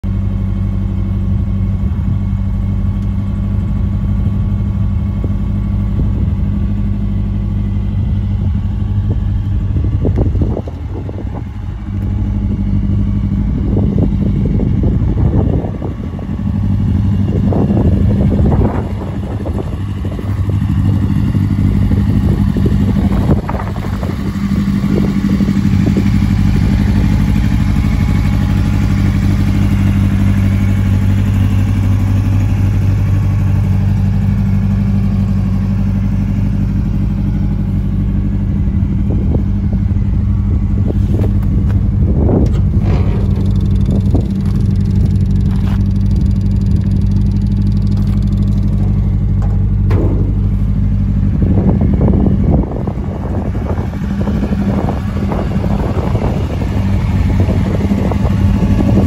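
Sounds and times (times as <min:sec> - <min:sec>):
car engine idling: 0:00.0 - 0:59.0
engine revving from throttle blips: 0:01.3 - 0:59.0.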